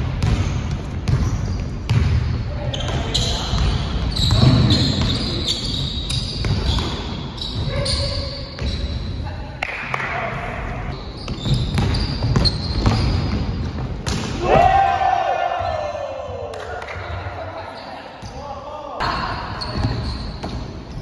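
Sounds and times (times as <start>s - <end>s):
sneakers squeaking: 0.0s - 9.6s, 10.5s - 14.4s, 15.5s - 16.1s, 16.8s - 21.0s.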